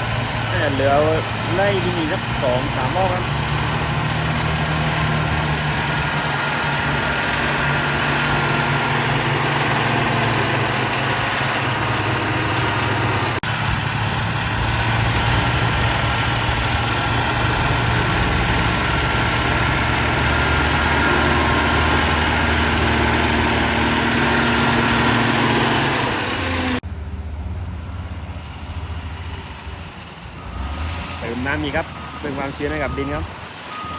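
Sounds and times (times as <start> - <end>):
diesel engine under load: 0.0 - 33.9.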